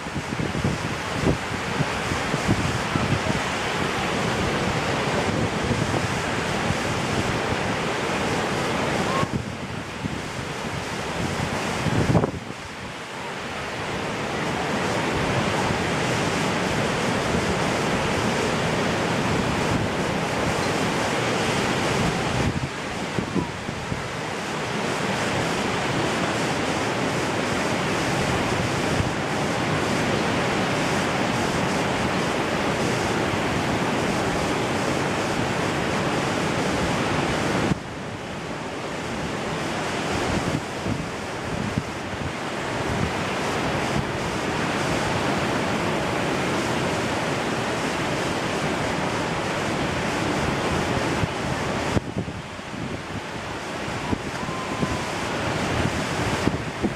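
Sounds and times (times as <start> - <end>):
ocean surf breaking: 0.0 - 56.9
wind buffeting microphone: 0.0 - 56.9.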